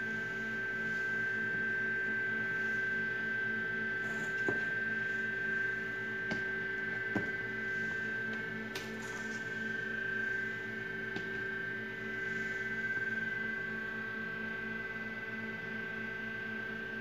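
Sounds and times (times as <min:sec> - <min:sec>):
electrical hum with whine: 0:00.0 - 0:17.0.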